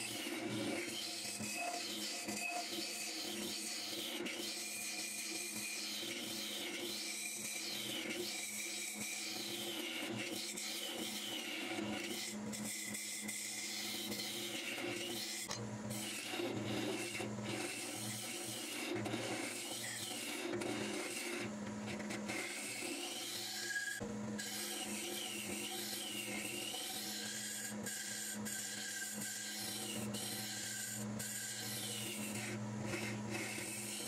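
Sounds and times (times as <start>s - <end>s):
turning tool rasping on wood: 0.0s - 34.0s
wood lathe motor hum: 0.0s - 34.0s.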